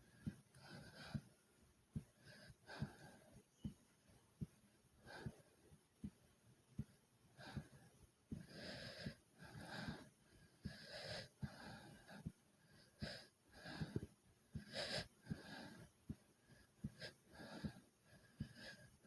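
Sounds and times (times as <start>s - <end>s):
person breathing hard: 0.0s - 3.4s, 4.4s - 6.2s, 6.8s - 19.0s
heartbeat thumps: 0.2s - 1.3s, 1.9s - 12.4s, 13.0s - 17.8s.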